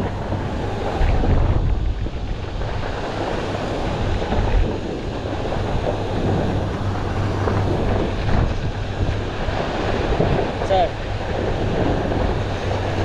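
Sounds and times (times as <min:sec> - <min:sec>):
fire hose water jet rushing: 0:00.0 - 0:13.0
pump engine hum: 0:00.0 - 0:13.0.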